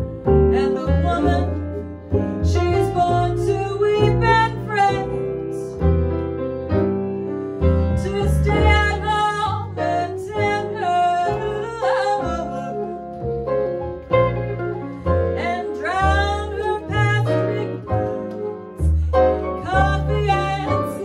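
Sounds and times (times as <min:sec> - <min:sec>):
guitar: 0:00.0 - 0:21.0
jazz combo playing: 0:00.0 - 0:21.0
upright bass: 0:00.0 - 0:21.0.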